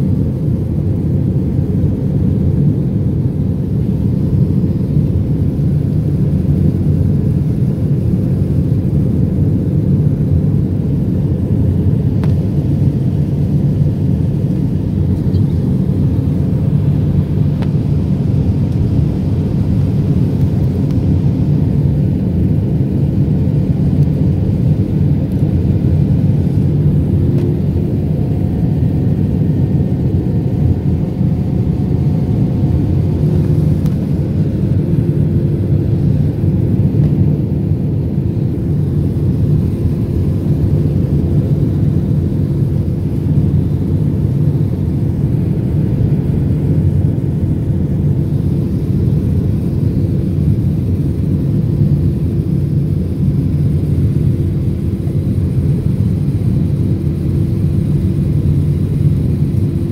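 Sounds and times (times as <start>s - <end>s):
faint steady hum: 0.0s - 59.9s
low roar of engines and airflow: 0.0s - 59.9s.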